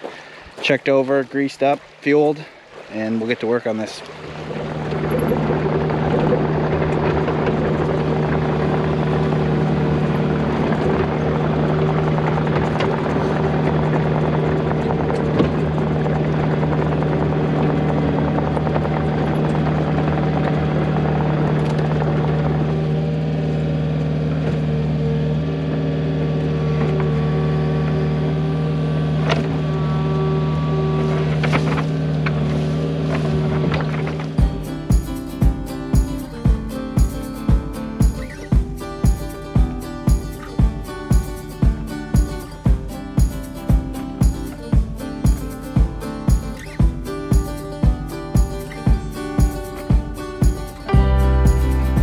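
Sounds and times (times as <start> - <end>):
excavator diesel engine running: 4.2 - 52.0.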